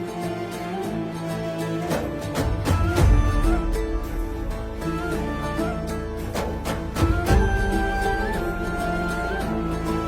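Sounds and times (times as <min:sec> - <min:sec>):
instrumental music with melody: 0:00.0 - 0:10.0.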